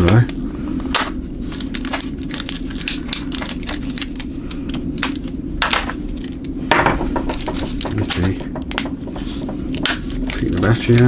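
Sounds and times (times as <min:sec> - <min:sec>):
steady low hum: 0:00.0 - 0:11.0
plastic packaging crinkling: 0:00.9 - 0:11.0.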